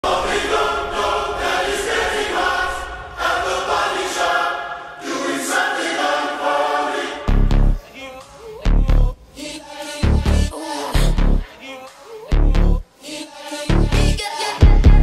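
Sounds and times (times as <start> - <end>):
song with singing: 0.0 - 15.0.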